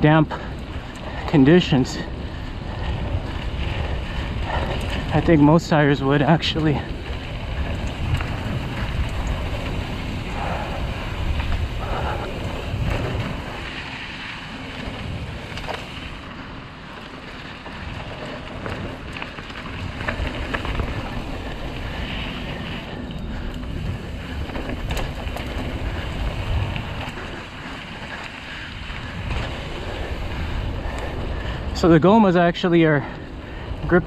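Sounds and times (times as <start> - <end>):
wind on microphone: 0.0 - 16.2, 17.7 - 32.0
tyre noise: 0.0 - 33.0
bike clicks and rattles: 0.0 - 34.0.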